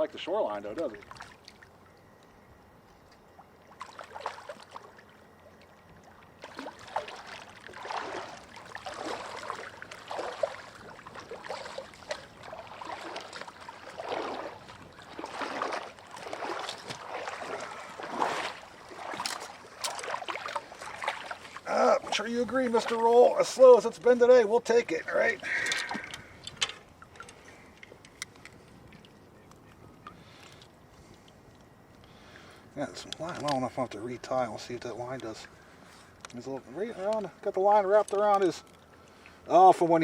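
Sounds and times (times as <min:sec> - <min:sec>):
water splashing and sloshing: 0:00.0 - 0:40.0.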